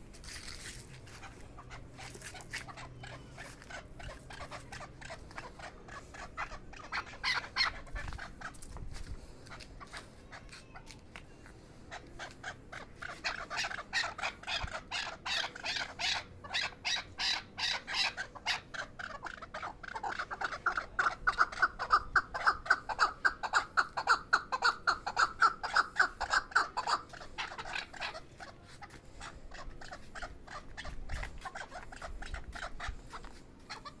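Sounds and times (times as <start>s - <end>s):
partridge calling: 1.1s - 10.8s, 11.9s - 34.0s.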